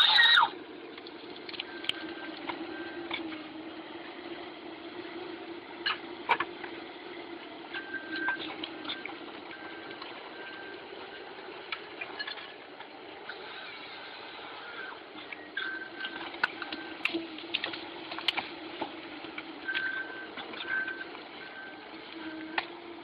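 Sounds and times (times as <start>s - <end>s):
wood-processing machinery humming: 0.0s - 23.0s.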